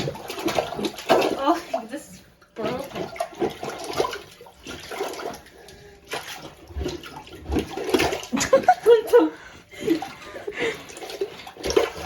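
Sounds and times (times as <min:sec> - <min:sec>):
water sloshing in toilet bowl: 0:00.0 - 0:12.0.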